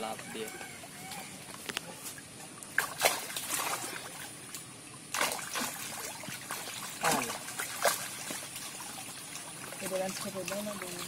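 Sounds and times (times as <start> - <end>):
water trickling: 0.0 - 11.0
fish thrashing and splashing: 0.6 - 11.0.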